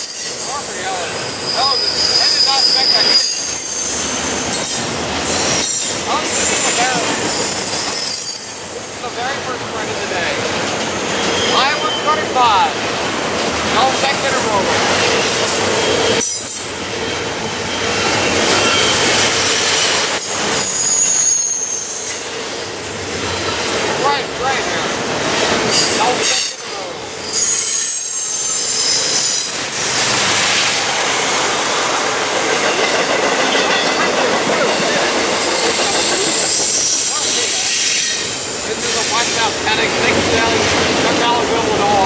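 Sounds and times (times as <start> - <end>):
wheel squeals: 0.0 - 12.6, 13.8 - 16.8, 17.6 - 24.2, 25.6 - 30.3, 32.6 - 42.0
freight train rumbling on rails: 0.0 - 42.0.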